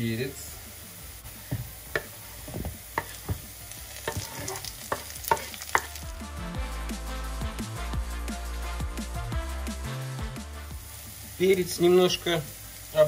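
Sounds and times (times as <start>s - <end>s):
vegetables sizzling in oil: 0.0s - 6.6s, 9.1s - 13.0s.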